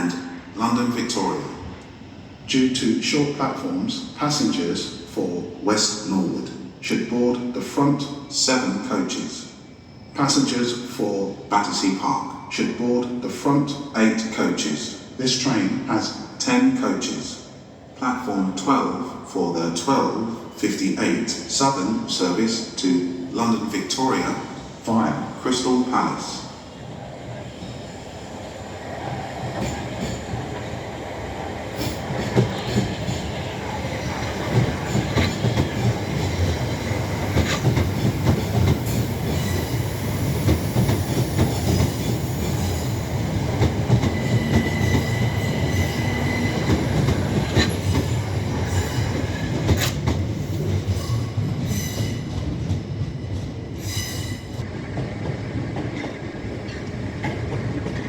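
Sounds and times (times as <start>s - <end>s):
train rumbling slowly: 0.0s - 58.0s.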